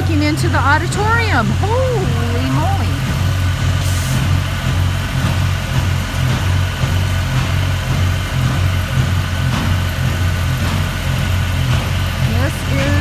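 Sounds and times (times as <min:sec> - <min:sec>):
machinery engine idling: 0:00.0 - 0:13.0.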